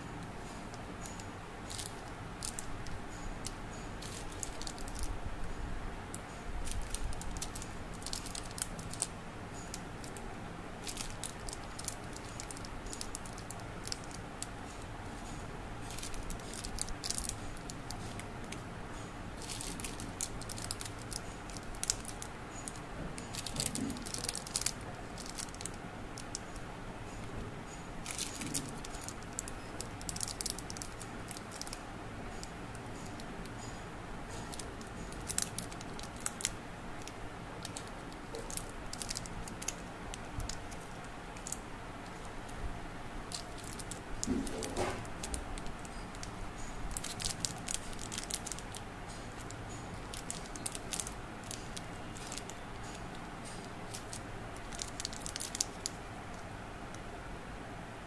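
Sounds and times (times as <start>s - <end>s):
plastic wrappers crinkling: 0.7s - 5.2s, 6.1s - 18.7s, 19.4s - 26.6s, 28.0s - 42.6s, 43.2s - 56.4s.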